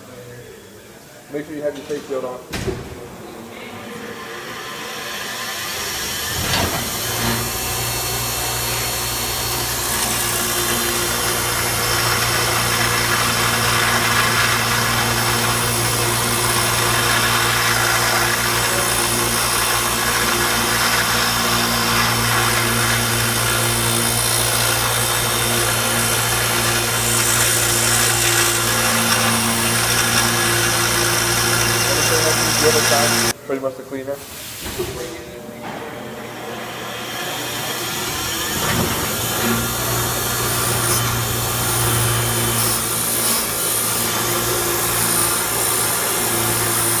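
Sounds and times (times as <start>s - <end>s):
metal grinding hiss: 3.6s - 33.3s, 37.1s - 47.0s
bench grinder motor humming: 4.2s - 33.3s, 36.5s - 47.0s.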